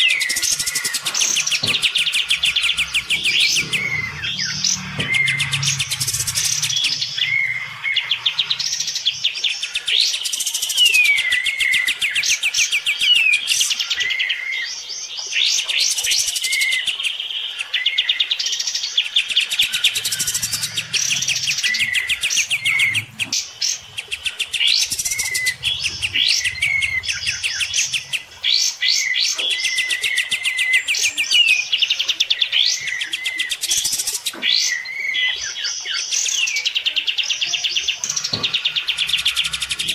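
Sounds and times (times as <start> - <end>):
birds singing trills and whistles: 0.0 - 39.9.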